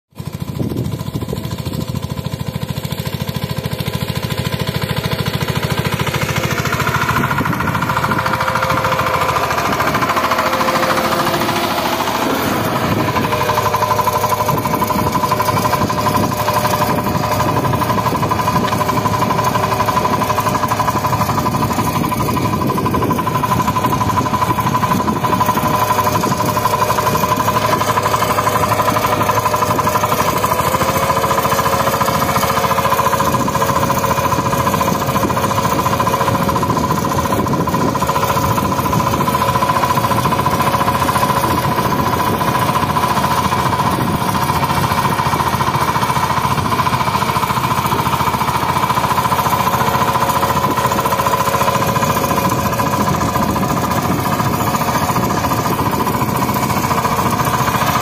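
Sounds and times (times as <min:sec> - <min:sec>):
diesel engine knocking under load: 0:00.1 - 0:58.0.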